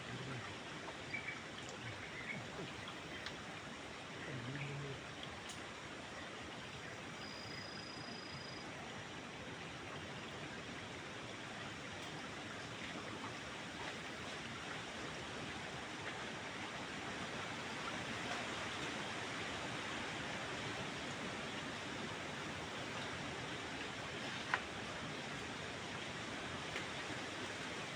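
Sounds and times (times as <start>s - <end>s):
forest stream flowing: 0.0s - 27.9s.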